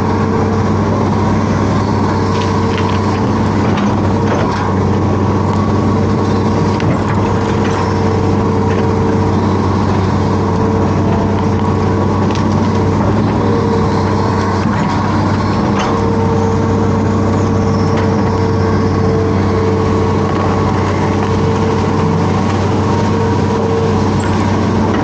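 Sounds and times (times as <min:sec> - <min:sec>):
diesel engine running: 0:00.0 - 0:25.0
hydraulic whine: 0:00.0 - 0:25.0.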